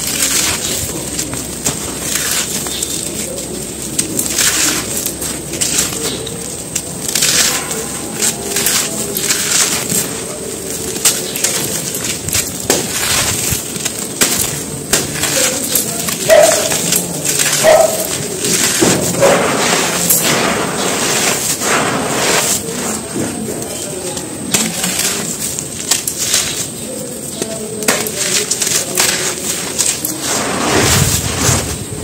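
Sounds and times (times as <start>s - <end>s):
crumbs trickling onto dirt: 0.0s - 32.0s
dirt crunching in hands: 0.0s - 32.0s.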